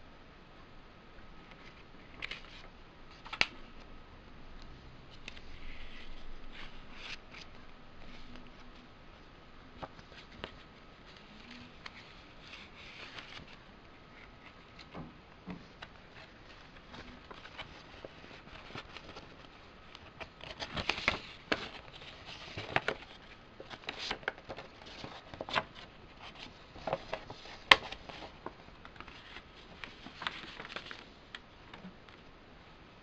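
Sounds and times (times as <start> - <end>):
paper rustling and crinkling: 1.5 - 3.6, 5.1 - 8.9, 9.7 - 32.2.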